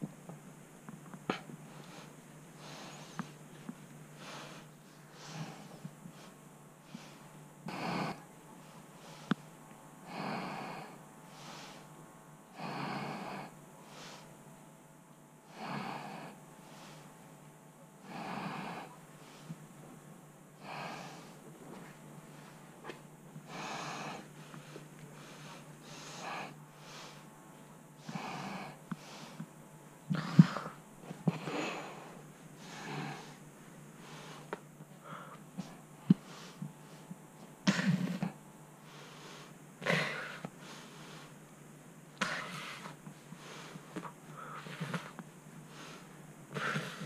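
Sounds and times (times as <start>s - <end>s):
low steady hum: 0.0s - 47.0s
heavy breathing: 1.3s - 14.4s, 15.5s - 17.2s, 18.0s - 20.0s, 20.6s - 27.3s, 28.0s - 41.4s, 42.2s - 47.0s.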